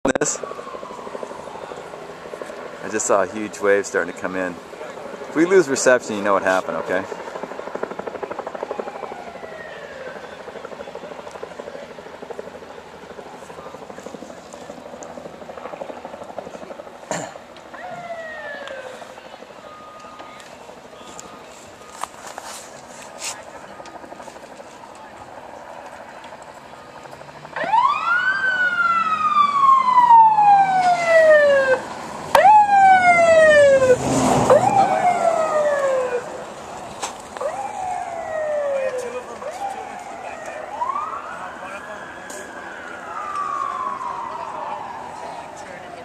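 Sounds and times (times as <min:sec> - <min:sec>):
emergency vehicle siren: 0:00.0 - 0:46.0
helicopter rotor chopping: 0:00.1 - 0:46.0.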